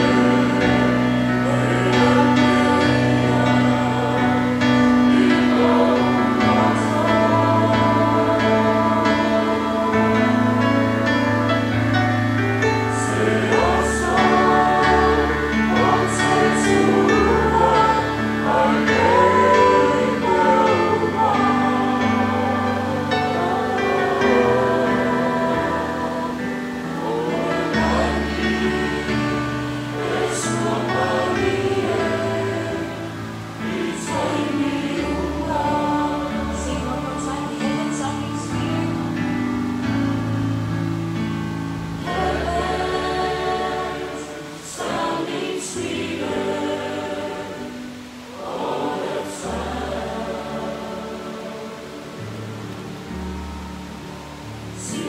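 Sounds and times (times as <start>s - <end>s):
group singing a hymn: 0.0s - 55.0s.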